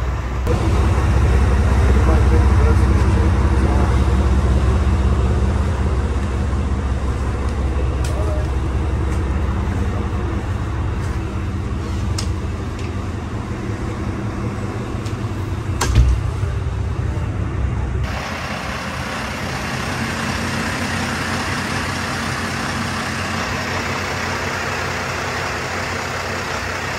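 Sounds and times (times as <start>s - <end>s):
hissy running noise: 0.0s - 26.9s
machinery hum: 0.0s - 26.9s.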